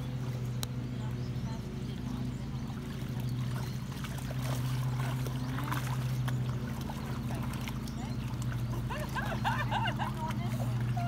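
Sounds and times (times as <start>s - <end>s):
puppies splashing in water: 0.0s - 11.0s
steady low hum: 0.0s - 11.0s.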